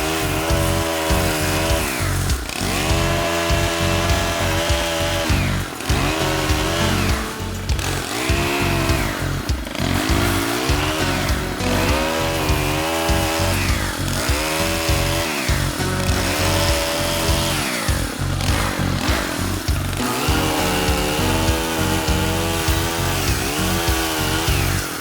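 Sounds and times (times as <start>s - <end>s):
pole pruner engine revving: 0.0s - 25.0s.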